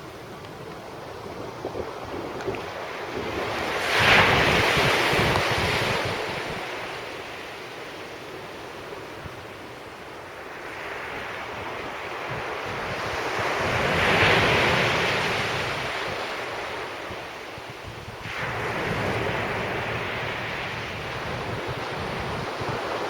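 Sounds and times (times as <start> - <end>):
wind buffeting microphone: 0.0 - 7.4, 11.5 - 23.0
sea waves breaking on beach: 0.9 - 23.0.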